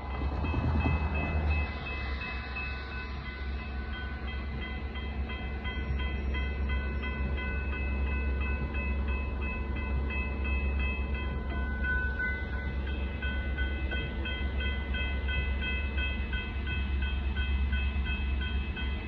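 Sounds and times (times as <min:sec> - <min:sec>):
crossing warning bells ringing: 0:00.0 - 0:19.0.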